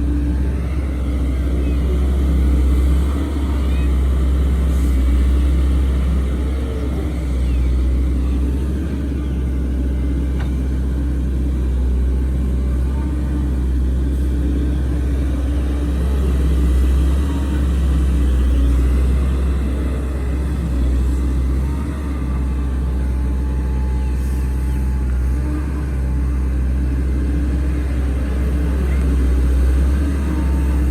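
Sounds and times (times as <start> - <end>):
heavy machinery diesel engine rumble: 0.0 - 30.9.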